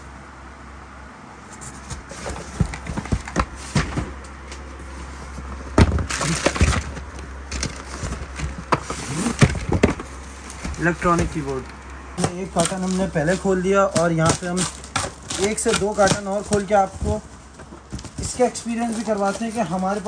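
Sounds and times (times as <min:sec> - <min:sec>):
cardboard and plastic packaging rustling: 0:01.5 - 0:20.0.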